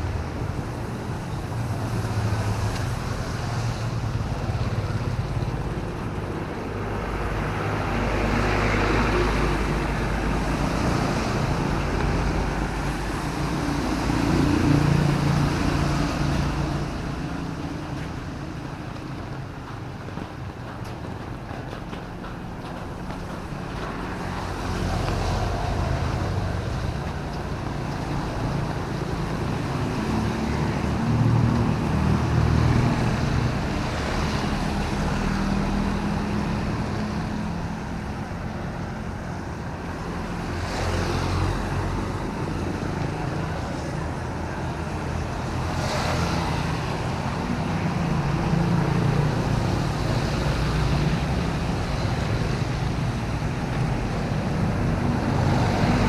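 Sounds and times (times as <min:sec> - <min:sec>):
low rumble of vehicle engines: 0:00.0 - 0:56.0
tyres swishing on wet road: 0:00.0 - 0:56.0.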